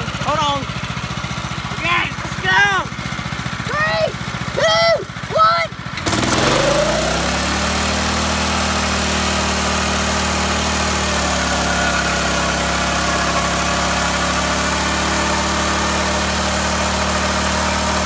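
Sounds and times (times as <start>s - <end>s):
go-kart engine running: 0.0s - 18.0s.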